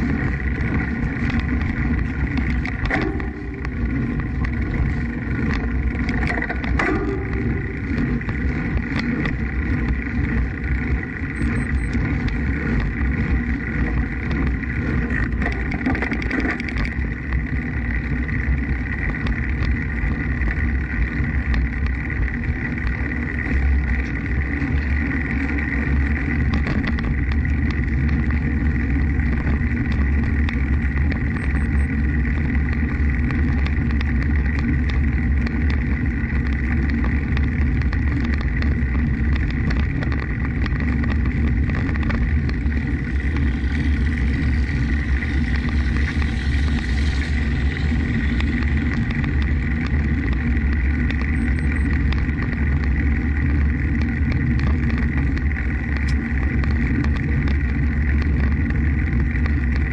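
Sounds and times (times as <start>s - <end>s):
faint steady whine: 0.0s - 59.9s
small clicks: 0.0s - 59.9s
tyres on pavement: 0.0s - 59.9s
wind rushing over microphone: 0.0s - 59.9s.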